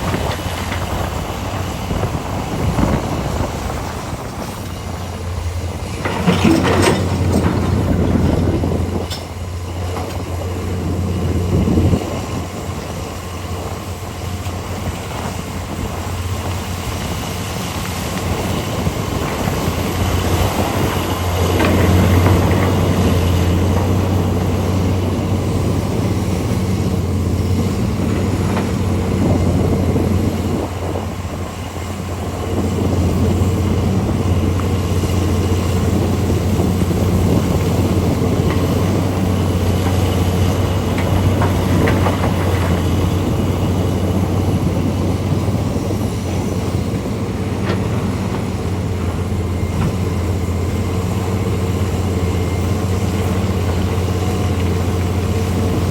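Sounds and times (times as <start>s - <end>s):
heavy diesel engines droning: 0.0s - 55.9s.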